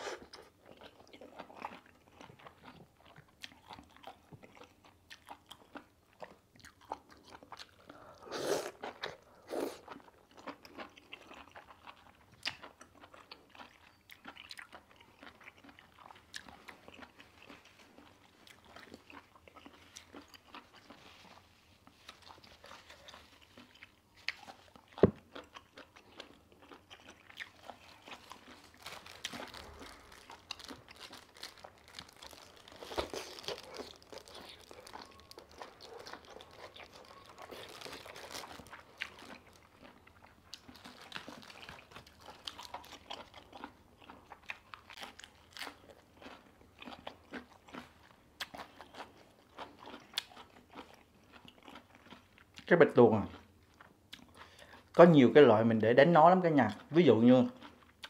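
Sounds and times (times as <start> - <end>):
person chewing and crunching: 0.0 - 55.3, 56.4 - 58.0.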